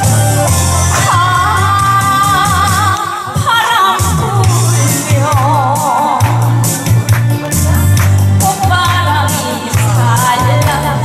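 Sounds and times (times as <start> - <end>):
woman singing with vibrato: 0.0 - 6.8, 8.4 - 11.0
backing track with bass beat: 0.0 - 11.0.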